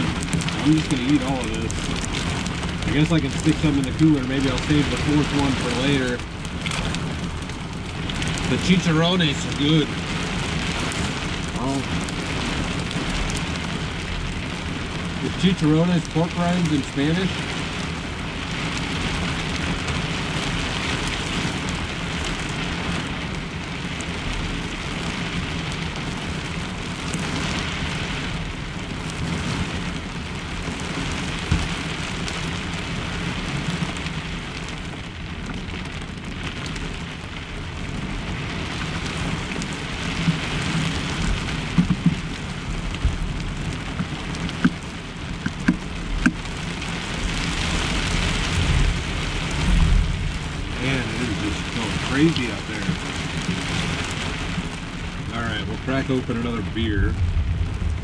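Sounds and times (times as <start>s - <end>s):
rain on camper shell: 0.0s - 58.0s.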